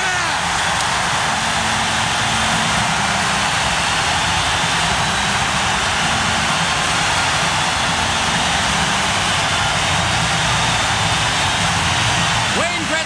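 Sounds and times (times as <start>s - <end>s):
crowd cheering loudly: 0.0s - 13.0s.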